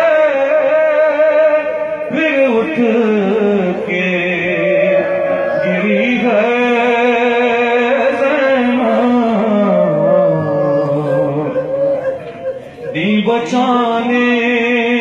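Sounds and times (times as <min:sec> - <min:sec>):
man singing lament into microphone: 0:00.0 - 0:15.0.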